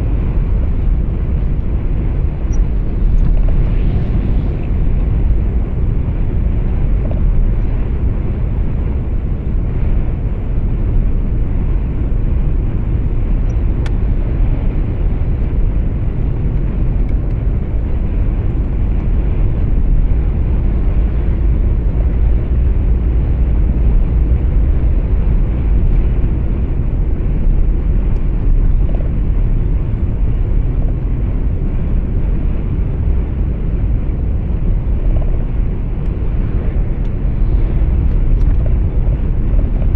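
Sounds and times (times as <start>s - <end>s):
truck cab road and engine rumble: 0.0s - 39.9s.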